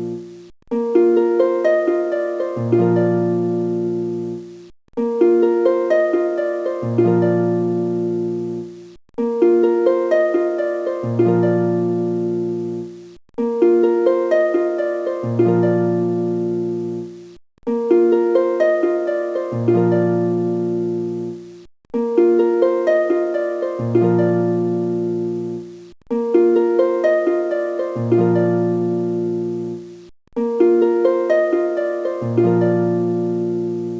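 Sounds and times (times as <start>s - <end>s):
plucked string music: 0.0s - 33.9s.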